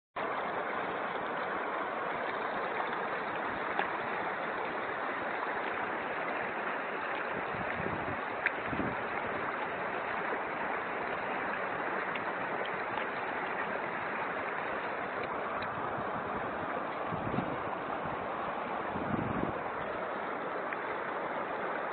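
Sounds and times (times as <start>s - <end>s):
fast river rushing: 0.2s - 21.9s.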